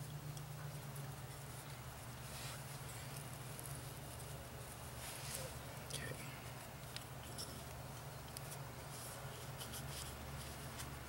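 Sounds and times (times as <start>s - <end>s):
low steady hum: 0.0s - 11.0s
small ticks and rustles: 0.0s - 11.0s.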